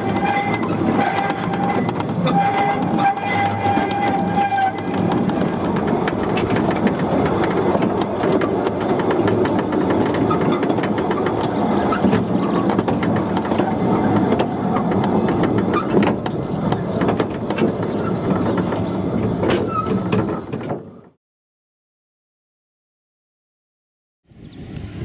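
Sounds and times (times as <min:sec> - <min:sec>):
railway wagon rattling and clanking: 0:00.0 - 0:21.2.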